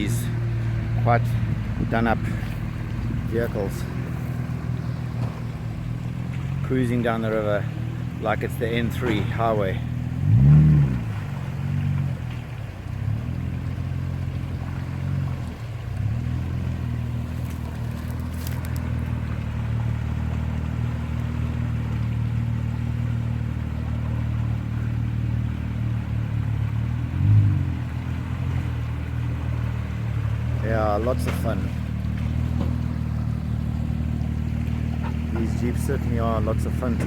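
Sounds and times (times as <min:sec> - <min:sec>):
engine throttle blips: 0:00.0 - 0:37.0
vehicle engine idling: 0:00.0 - 0:37.0.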